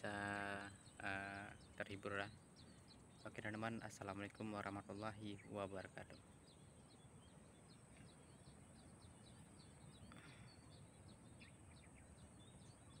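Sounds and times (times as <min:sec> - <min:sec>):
small bird chirping: 0:00.0 - 0:13.0
soft low background noise: 0:00.0 - 0:13.0.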